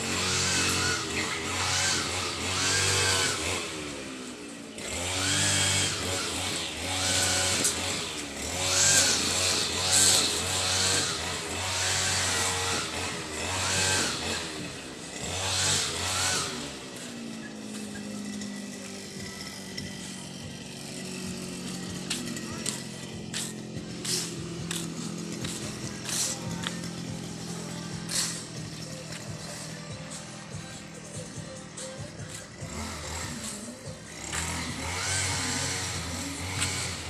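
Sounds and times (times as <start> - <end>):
small engine revving and idling: 0.0 - 37.0.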